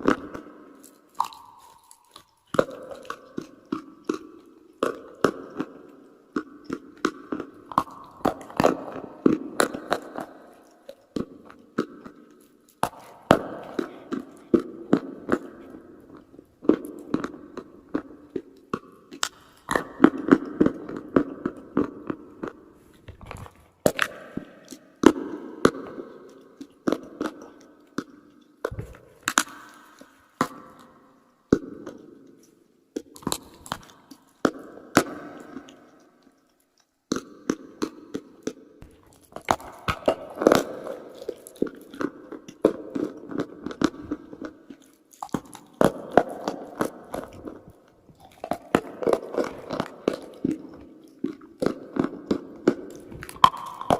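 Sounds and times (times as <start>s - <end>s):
crunchy chewing close up: 0.0s - 25.2s, 31.5s - 53.9s.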